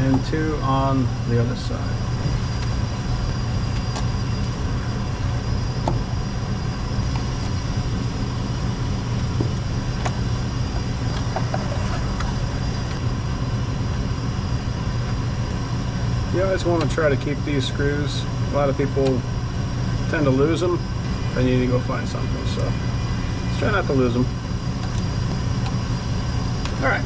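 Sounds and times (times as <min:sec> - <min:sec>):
low machine drone: 0:00.0 - 0:27.0.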